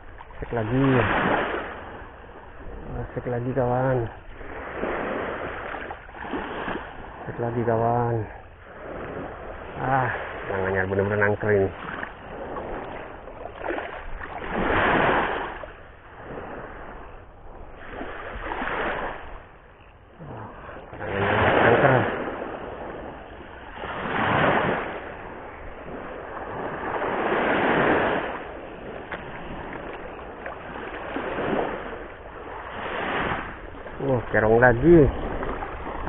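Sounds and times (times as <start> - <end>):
sea waves on rocky shore: 0.0 - 36.0.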